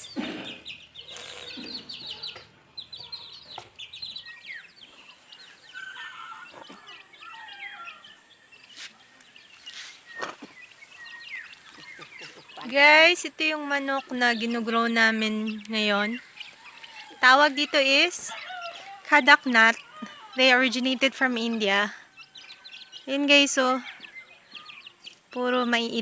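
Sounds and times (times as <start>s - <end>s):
chickens peeping and clucking: 0.0s - 26.0s.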